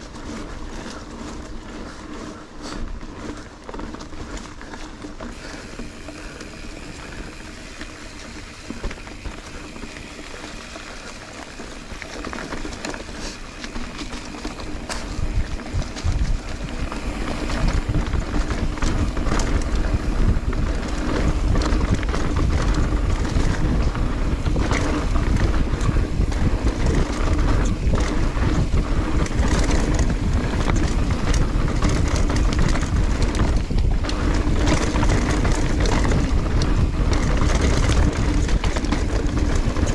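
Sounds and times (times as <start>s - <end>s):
bike rattling clicks: 0.0s - 39.9s
bike tyres rolling over dirt: 0.0s - 39.9s
wind buffeting microphone: 5.4s - 39.9s.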